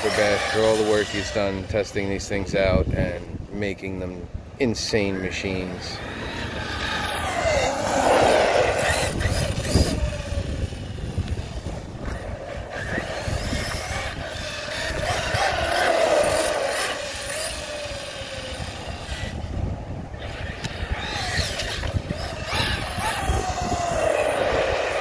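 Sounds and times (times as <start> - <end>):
electric motor whining: 0.0 - 3.4, 5.5 - 25.0
tyres and drivetrain on concrete: 0.0 - 25.0.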